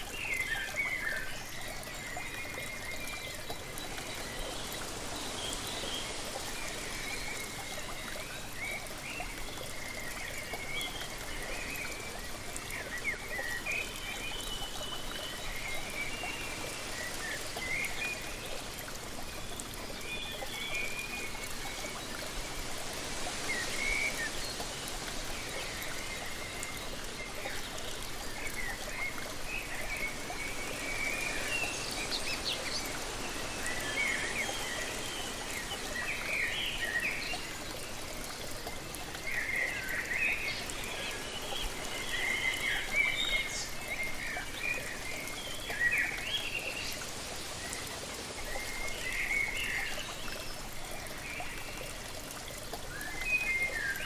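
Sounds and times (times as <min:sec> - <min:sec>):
waterfall: 0:00.0 - 0:54.0.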